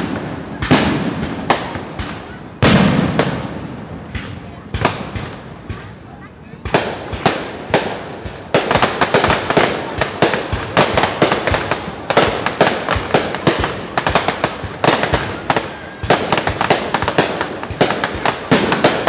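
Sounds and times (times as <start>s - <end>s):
fireworks bangs echoing: 0.0s - 19.0s.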